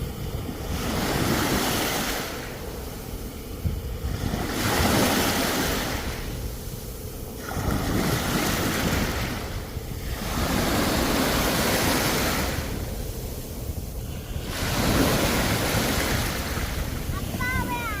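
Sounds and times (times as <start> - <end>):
sea waves breaking on shore: 0.0 - 18.0.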